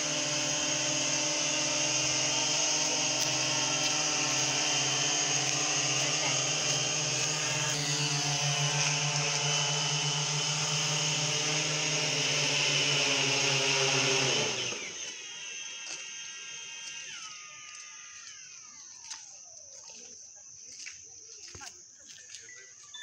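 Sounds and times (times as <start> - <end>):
drone rotors humming: 0.0 - 20.3.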